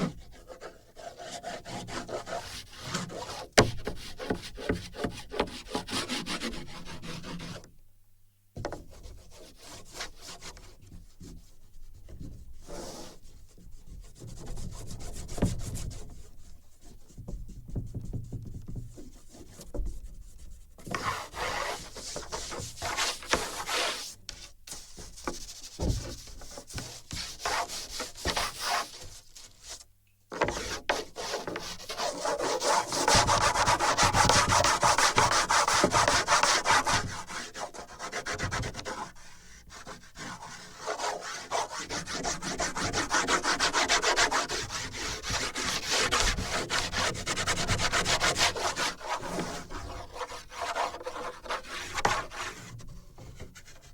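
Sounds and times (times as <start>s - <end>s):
scratchy rubbing on wooden board: 0.0s - 7.6s, 12.6s - 13.2s, 13.9s - 53.9s.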